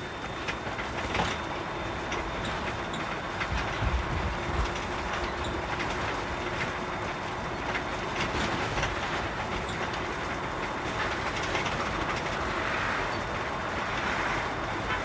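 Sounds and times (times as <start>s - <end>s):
truck road and engine noise: 0.0s - 15.0s.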